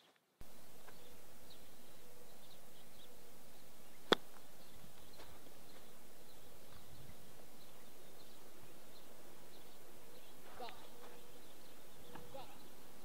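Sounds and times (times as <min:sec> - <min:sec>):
golf club striking from sand: 0:00.7 - 0:12.3.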